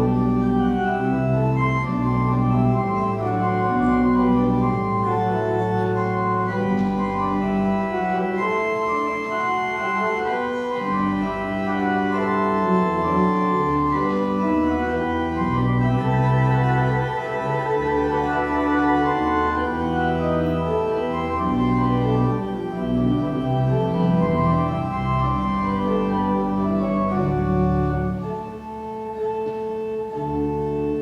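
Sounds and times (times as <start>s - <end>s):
organ playing slow chords: 0.0s - 31.0s.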